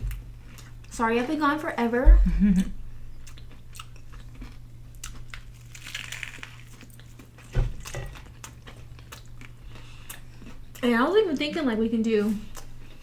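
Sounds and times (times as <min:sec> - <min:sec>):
crunching and chewing food: 0:00.0 - 0:01.7, 0:03.1 - 0:13.0
steady low hum: 0:00.0 - 0:13.0.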